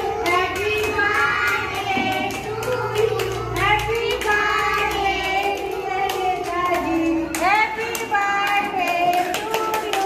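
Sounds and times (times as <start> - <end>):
children clapping along: 0.0 - 10.0
children singing together: 0.0 - 10.0.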